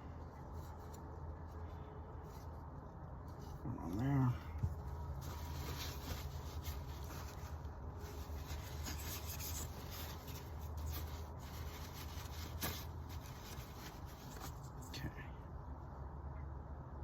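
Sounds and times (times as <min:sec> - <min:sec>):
rubbing and handling noises: 0:00.0 - 0:15.1
steady low hum: 0:00.0 - 0:17.0.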